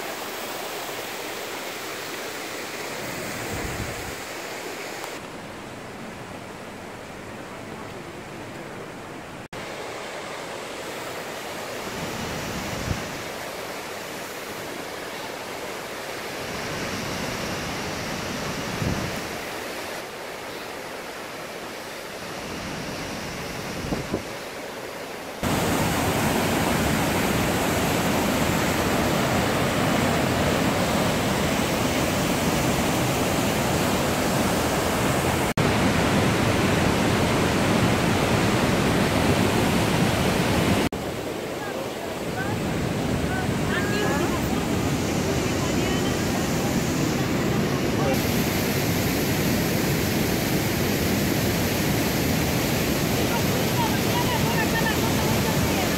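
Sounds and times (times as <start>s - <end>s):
waterfall rushing over rocks: 0.0s - 55.9s.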